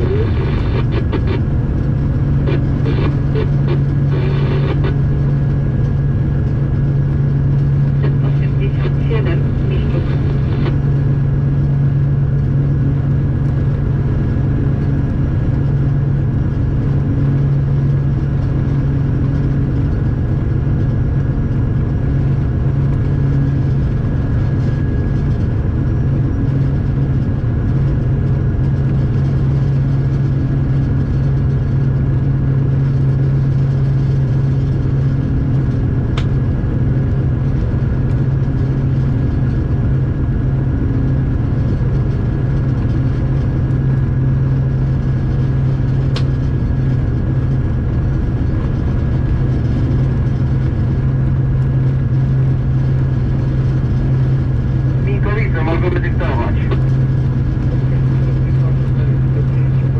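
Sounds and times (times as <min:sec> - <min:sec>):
locomotive engine humming: 0:00.0 - 0:31.5, 0:32.3 - 0:59.9.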